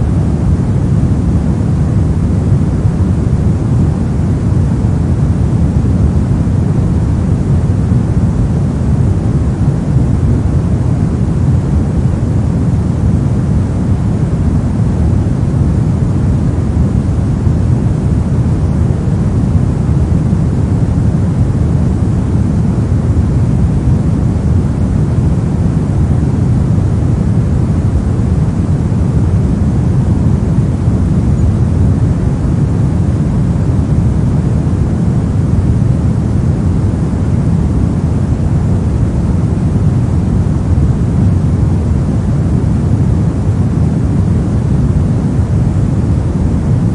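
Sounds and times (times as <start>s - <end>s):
pink noise: 0.0s - 46.9s.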